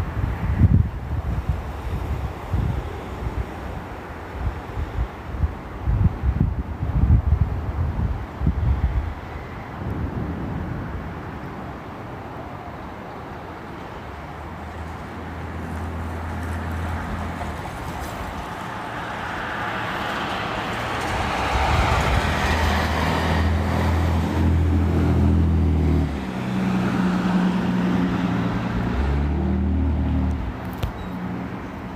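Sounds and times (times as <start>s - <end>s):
tyre noise of passing cars: 0.0s - 31.9s.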